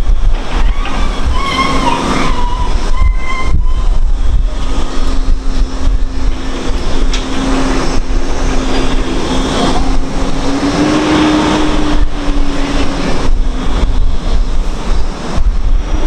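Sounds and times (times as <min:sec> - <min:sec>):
crane engine humming: 0:00.0 - 0:16.0
heavy low rumble: 0:00.0 - 0:16.0.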